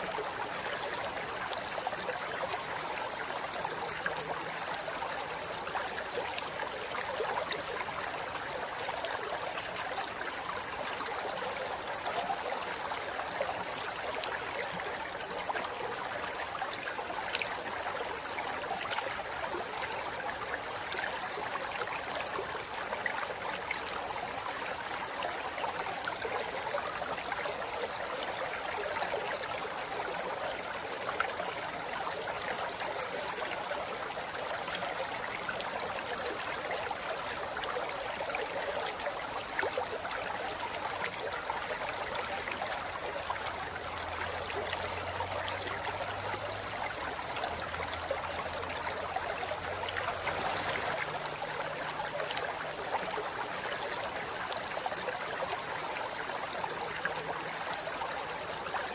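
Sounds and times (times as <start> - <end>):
river flowing over rocks: 0.0 - 58.9.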